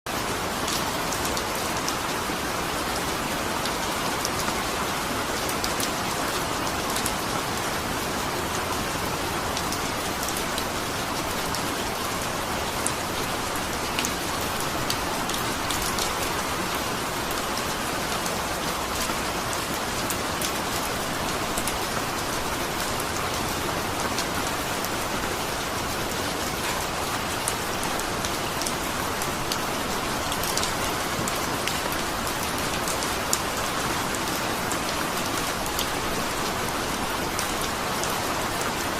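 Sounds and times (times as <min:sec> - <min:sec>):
steady rain hiss: 0:00.1 - 0:38.9
raindrops ticking close by: 0:03.1 - 0:38.9.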